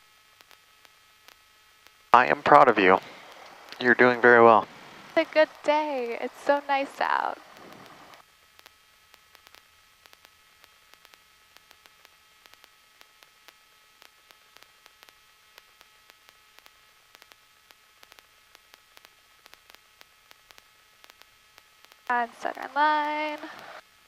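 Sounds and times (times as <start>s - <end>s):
faint static hiss: 0.0s - 24.0s
faint steady tone: 0.0s - 24.0s
small scattered clicks: 3.0s - 3.9s, 5.0s - 23.8s.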